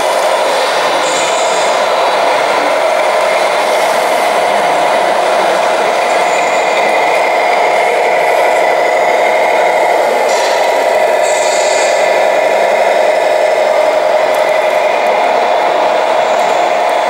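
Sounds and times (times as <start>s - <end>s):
electronic truck engine drone: 0.0s - 17.0s.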